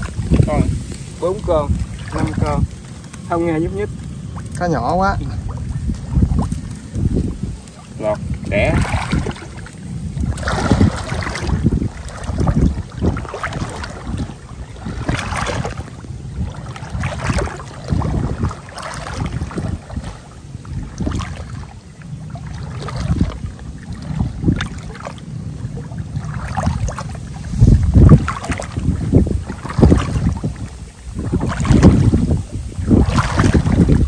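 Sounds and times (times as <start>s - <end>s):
splashing: 0.0s - 34.0s
wind rumbling on microphone: 0.0s - 34.0s.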